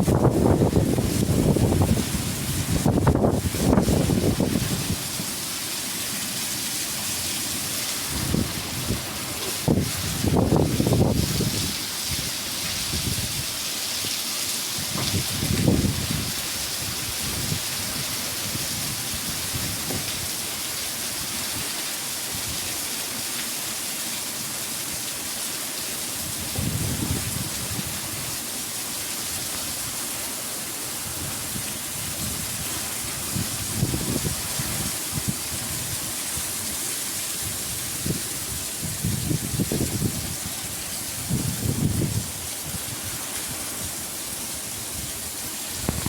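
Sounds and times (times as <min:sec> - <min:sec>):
heavy rain hissing: 0:00.0 - 0:46.0.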